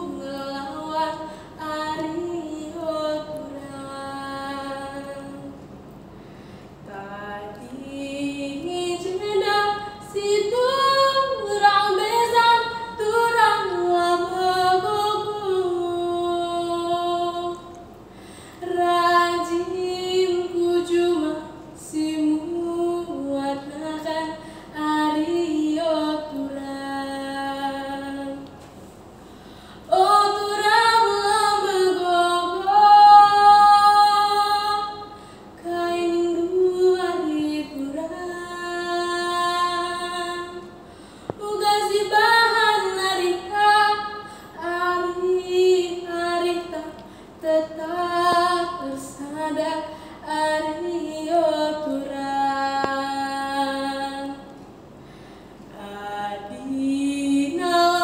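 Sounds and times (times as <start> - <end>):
girl singing: 0.0 - 5.6, 6.9 - 17.9, 18.6 - 28.6, 29.9 - 54.5, 55.7 - 58.0.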